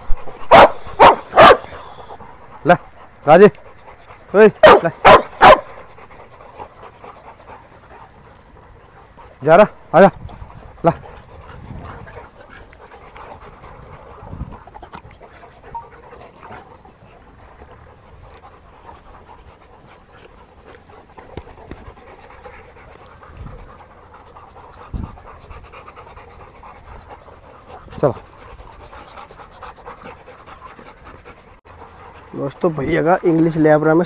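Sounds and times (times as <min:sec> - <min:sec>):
dog panting: 0:00.0 - 0:34.0.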